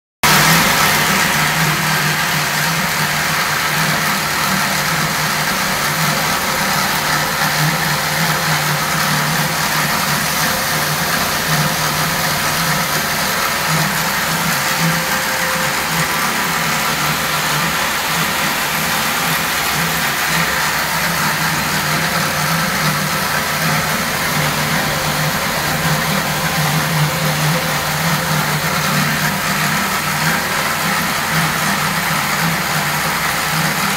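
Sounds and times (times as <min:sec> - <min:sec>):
lathe machine droning: 0:00.2 - 0:33.9.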